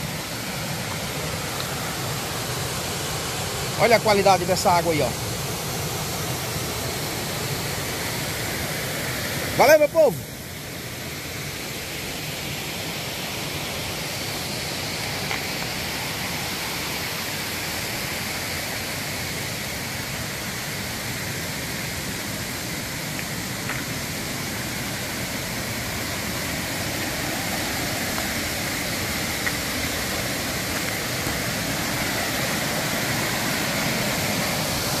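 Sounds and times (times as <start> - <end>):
waterfall rushing over rocks: 0.0 - 35.0.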